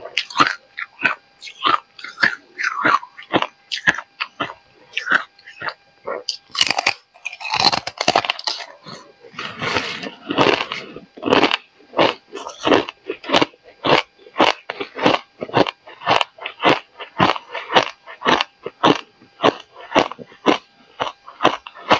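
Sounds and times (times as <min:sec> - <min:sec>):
ice crunching between teeth: 0:00.2 - 0:21.9.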